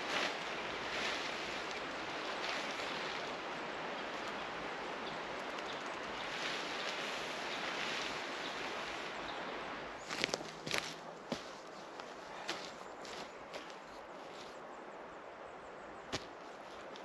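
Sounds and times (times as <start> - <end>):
wind rushing through trees: 0.0 - 17.0.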